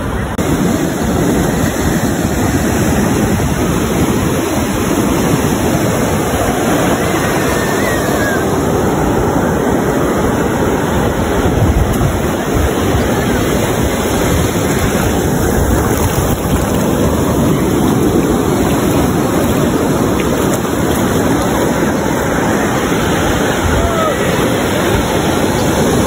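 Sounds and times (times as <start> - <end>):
ocean surf breaking: 0.0 - 26.0
wind on microphone: 0.0 - 26.0.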